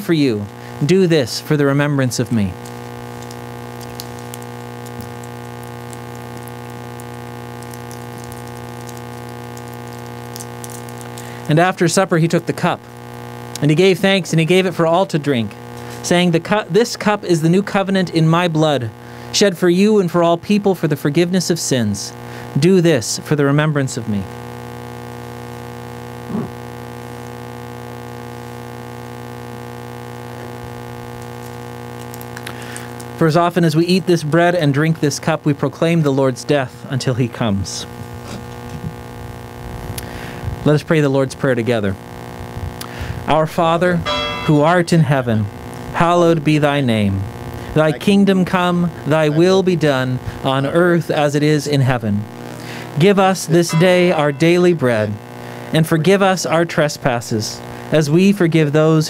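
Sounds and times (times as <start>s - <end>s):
electrical hum and buzz: 0.0s - 59.0s.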